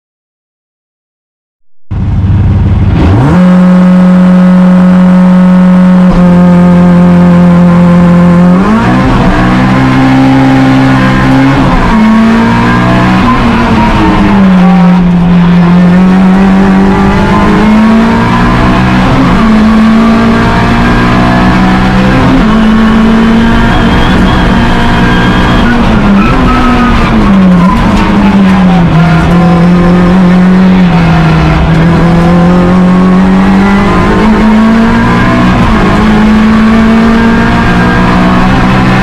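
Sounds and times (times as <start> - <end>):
rally car engine revving: 1.9 - 39.0.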